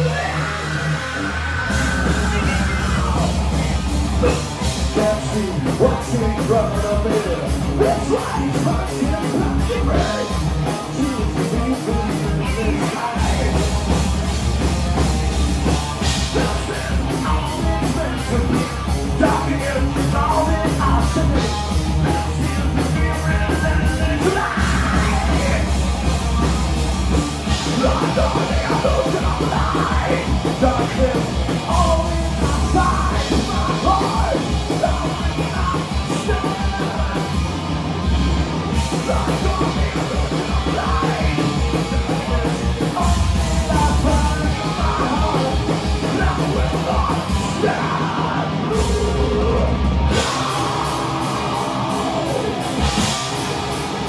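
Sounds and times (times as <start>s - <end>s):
heavy metal band playing live: 0.0s - 54.0s
rapid drum hits: 1.8s - 54.0s.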